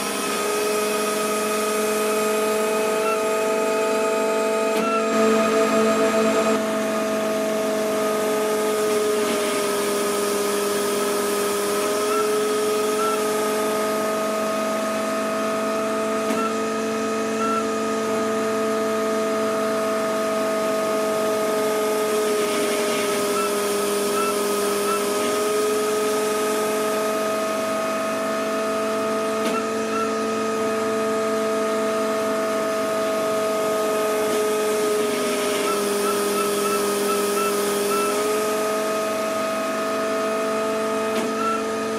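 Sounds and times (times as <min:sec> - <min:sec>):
hydraulic power unit whining: 0:00.0 - 0:41.9.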